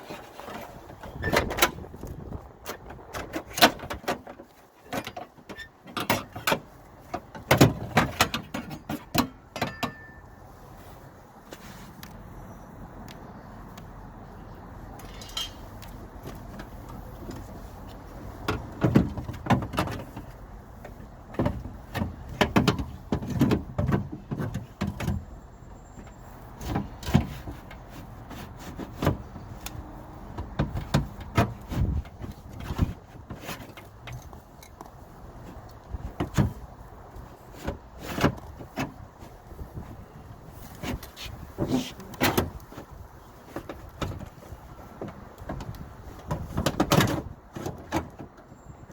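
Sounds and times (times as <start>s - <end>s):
clunks and rattles of car door parts: 0.0s - 10.2s, 15.0s - 48.9s.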